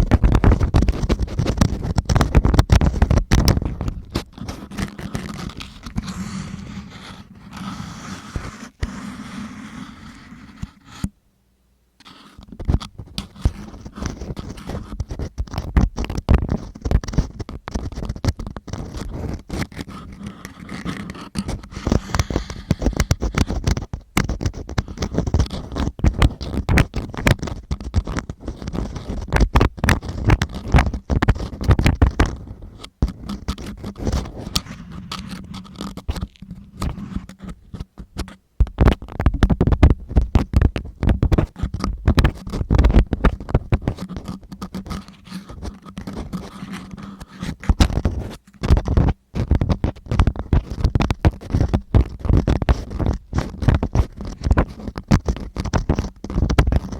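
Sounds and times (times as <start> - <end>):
ear-cleaning tool scraping microphone: 0.0 - 11.1, 12.0 - 56.9.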